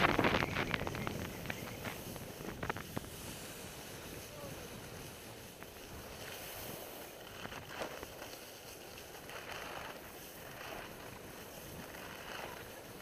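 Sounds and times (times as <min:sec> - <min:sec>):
skis sliding over snow: 0:00.0 - 0:13.0
wind on microphone: 0:00.0 - 0:13.0.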